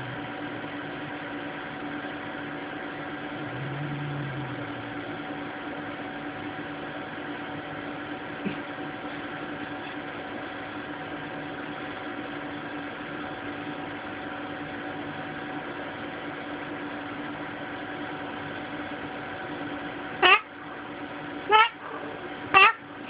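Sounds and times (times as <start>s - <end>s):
appliance humming: 0.0s - 23.0s.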